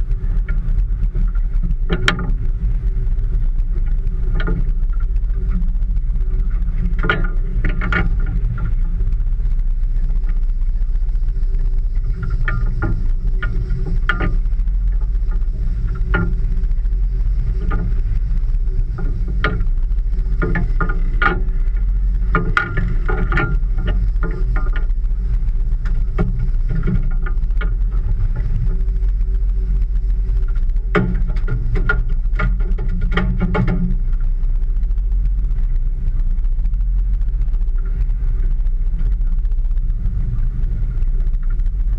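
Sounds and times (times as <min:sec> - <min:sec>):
boat rocking low rumble: 0:00.0 - 0:41.9.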